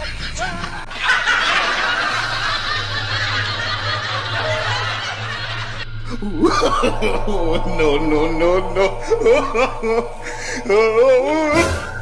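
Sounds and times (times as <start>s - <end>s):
low hum: 0.0s - 12.0s
people laughing and snickering: 0.0s - 12.0s.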